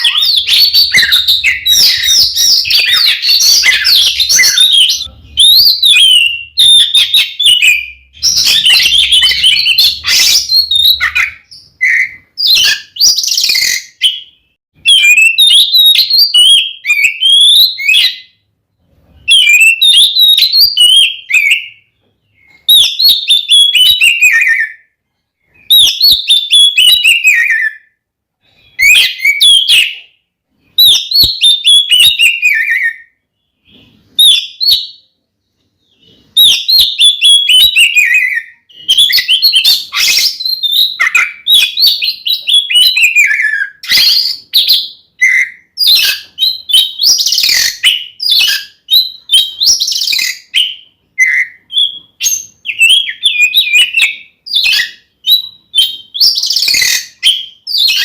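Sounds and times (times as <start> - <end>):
magpie-robin singing: 0.0 - 35.2, 35.8 - 58.0.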